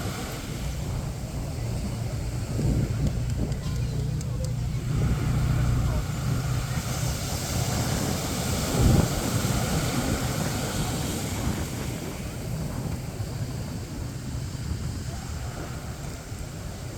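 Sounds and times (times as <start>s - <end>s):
waves washing onto beach: 0.0s - 16.9s
wind buffeting microphone: 0.0s - 16.9s.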